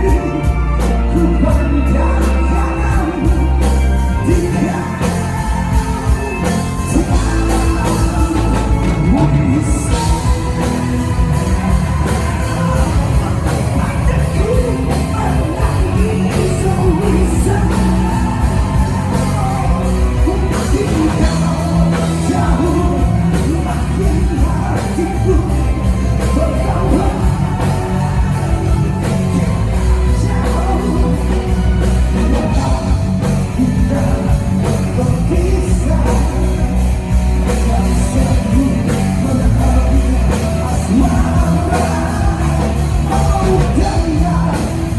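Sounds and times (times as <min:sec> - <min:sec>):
live rock band playing: 0:00.0 - 0:44.9
person singing: 0:00.0 - 0:44.9.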